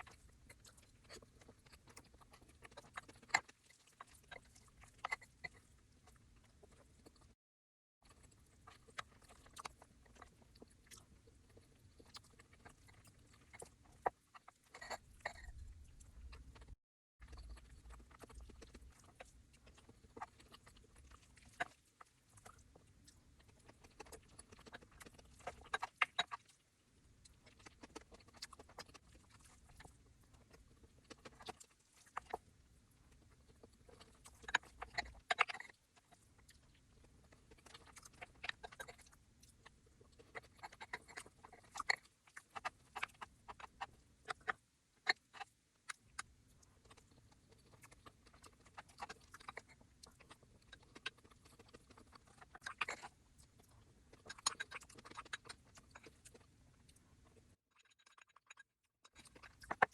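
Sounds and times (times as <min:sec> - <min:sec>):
person chewing crisp food: 0:00.0 - 0:07.4, 0:08.0 - 0:59.9.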